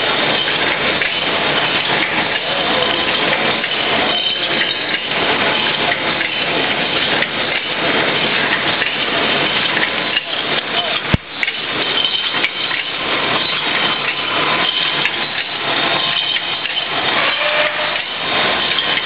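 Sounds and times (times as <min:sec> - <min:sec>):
printing machine clattering: 0:00.0 - 0:19.0.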